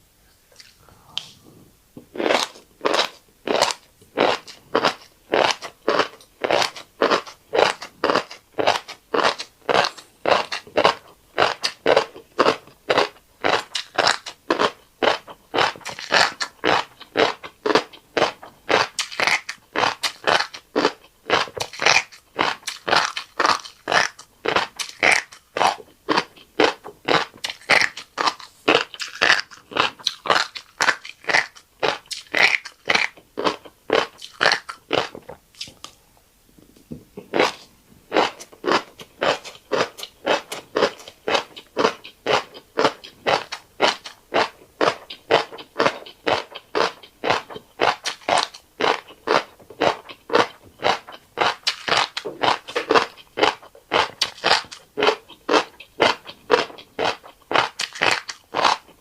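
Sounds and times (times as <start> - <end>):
crunchy chewing: 2.1 - 36.0, 37.2 - 59.0.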